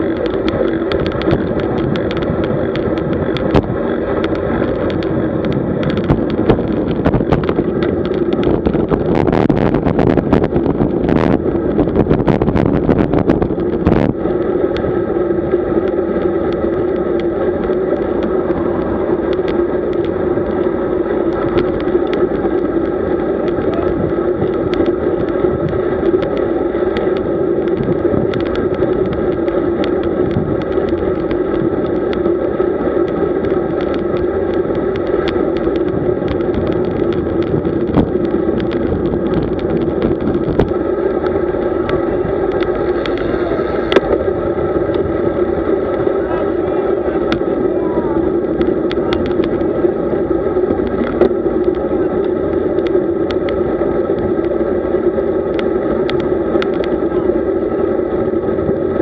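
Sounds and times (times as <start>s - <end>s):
steady hum: 0.0s - 59.0s
wind and tyre road noise: 0.0s - 59.0s.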